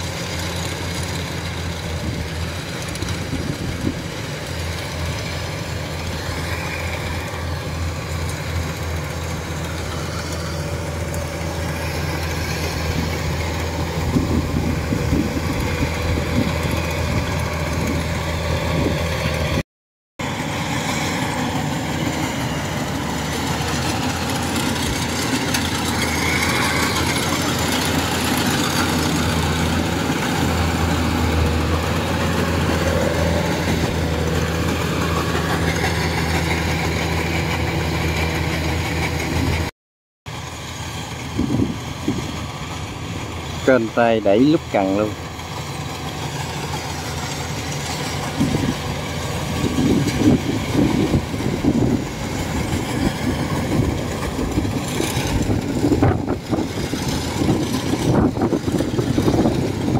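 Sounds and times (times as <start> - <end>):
combine harvester engine drone: 0.0 - 19.6, 20.2 - 39.7, 40.3 - 59.9
machinery rattling: 0.0 - 19.6, 20.2 - 39.7, 40.3 - 59.9.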